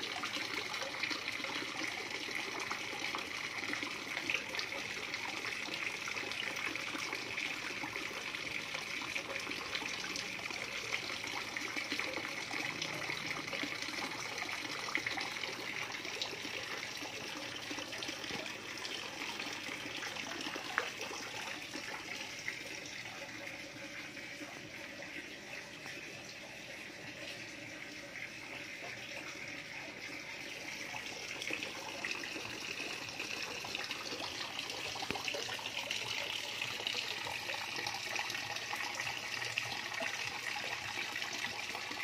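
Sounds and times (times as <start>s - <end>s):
water trickling into pond: 0.0s - 42.0s.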